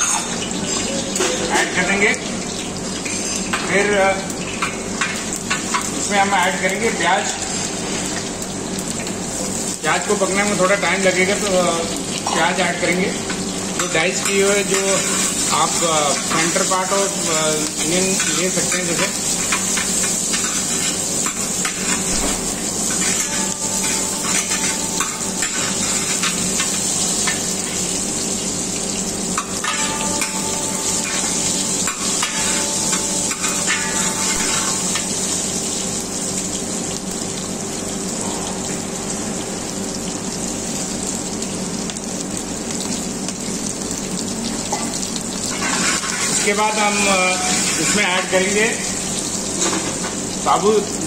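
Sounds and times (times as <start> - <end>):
food sizzling in hot oil: 0.0 - 51.0.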